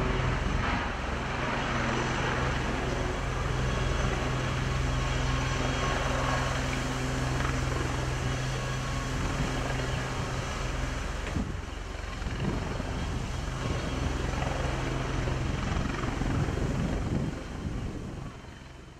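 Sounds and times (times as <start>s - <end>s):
helicopter turbine and rotor: 0.0s - 18.9s
steady low hum: 0.0s - 18.9s.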